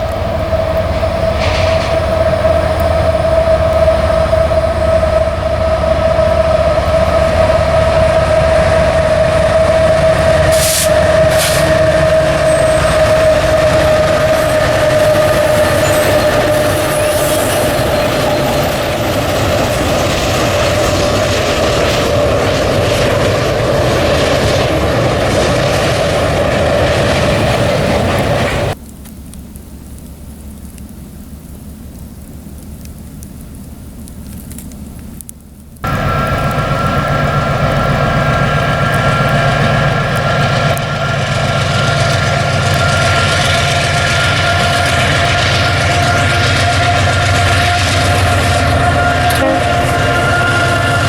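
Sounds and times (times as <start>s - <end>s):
low rumble: 0.0s - 28.8s, 35.8s - 51.0s
train running on rails: 0.0s - 28.8s, 35.8s - 51.0s
steady whine: 0.0s - 51.0s.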